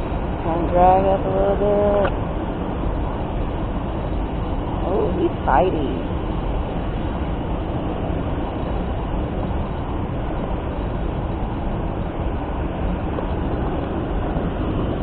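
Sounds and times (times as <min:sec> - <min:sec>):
stream current rushing: 0:00.0 - 0:15.0.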